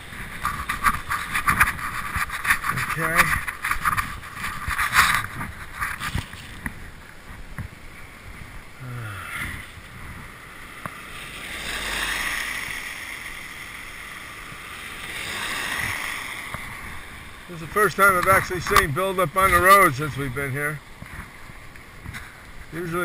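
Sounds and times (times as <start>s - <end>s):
vehicle tyres on snowy road: 0.0s - 23.0s.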